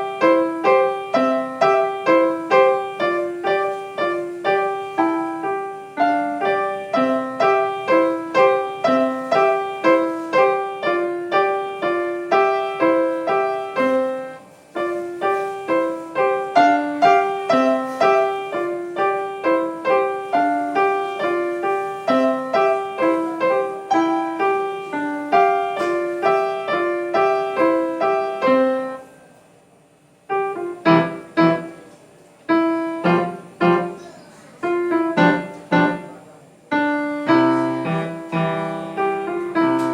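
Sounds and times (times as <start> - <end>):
solo piano: 0.0 - 39.9.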